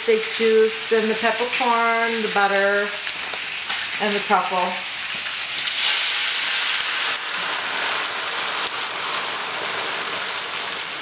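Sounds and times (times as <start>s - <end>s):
steaks sizzling in a skillet: 0.0s - 11.0s.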